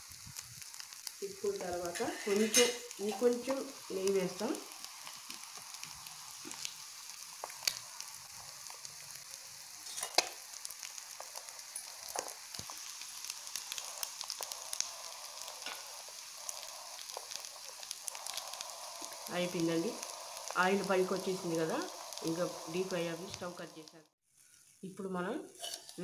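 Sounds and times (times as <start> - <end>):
eggs sizzling in oil: 0.0 - 26.0.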